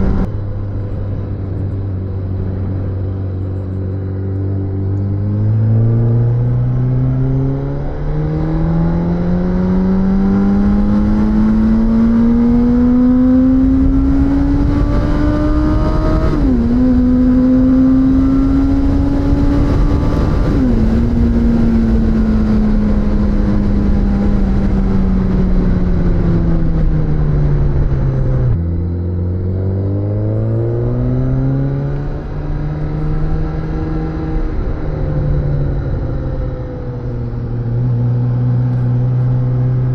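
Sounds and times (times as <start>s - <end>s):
wind rush over microphone: 0.0s - 4.2s, 5.0s - 39.9s
motorcycle engine revving: 0.0s - 39.9s.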